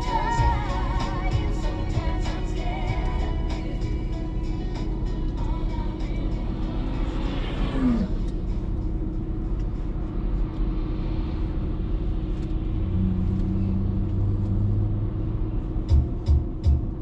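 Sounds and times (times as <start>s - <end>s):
deeper steady drone: 0.0s - 17.0s
vehicle rumble: 0.0s - 17.0s.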